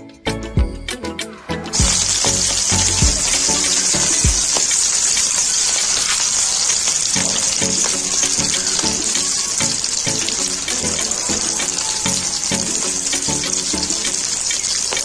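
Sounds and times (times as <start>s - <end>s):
background music: 0.0s - 15.0s
oil sizzling with crackling pops: 1.8s - 15.0s.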